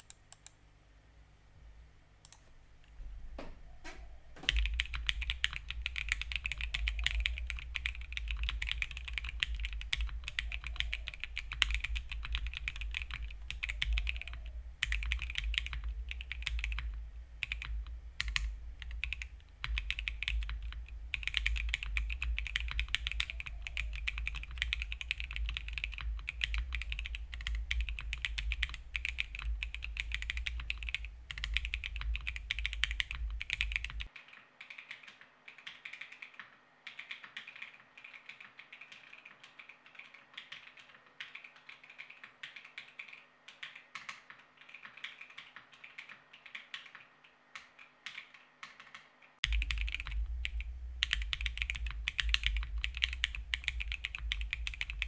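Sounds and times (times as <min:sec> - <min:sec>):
low steady hum: 0:00.0 - 0:45.1, 0:47.1 - 0:55.0
mechanical keyboard typing: 0:04.4 - 0:55.0.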